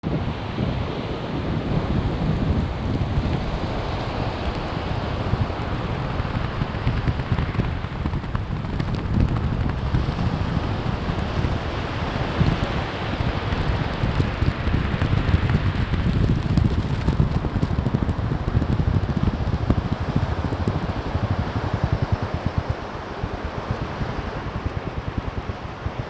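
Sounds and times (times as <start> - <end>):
wind buffeting microphone: 0.0 - 26.0
sea surf washing on shore: 0.1 - 26.0.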